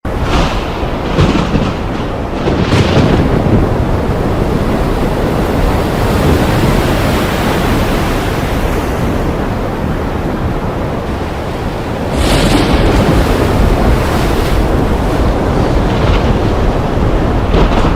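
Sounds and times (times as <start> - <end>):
heavy rain falling: 0.1 - 8.1, 9.3 - 17.9.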